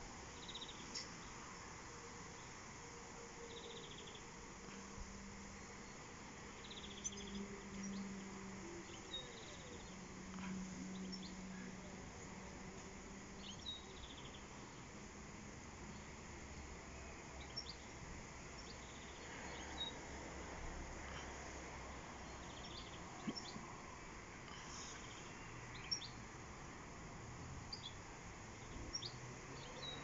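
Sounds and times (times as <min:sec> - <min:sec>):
background hiss: 0:00.0 - 0:30.0.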